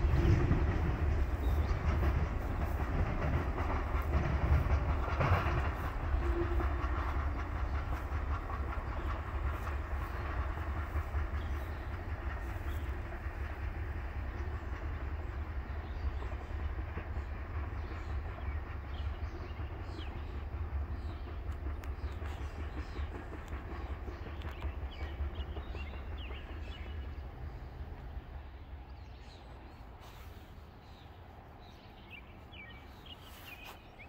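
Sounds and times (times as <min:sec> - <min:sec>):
freight train rumble: 0:00.0 - 0:34.0
train wheels clattering on rails: 0:00.0 - 0:34.0.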